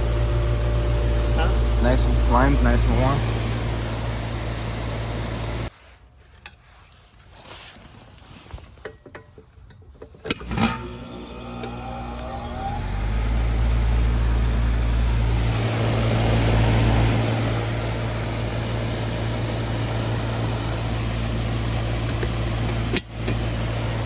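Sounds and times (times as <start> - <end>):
compressor hum: 0.0 - 5.7, 10.3 - 24.0
outdoor fan rushing: 0.0 - 5.7, 10.3 - 24.0.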